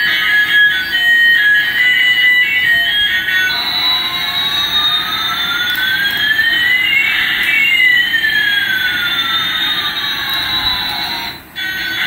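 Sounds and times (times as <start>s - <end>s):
whining tones sliding: 0.0s - 12.0s.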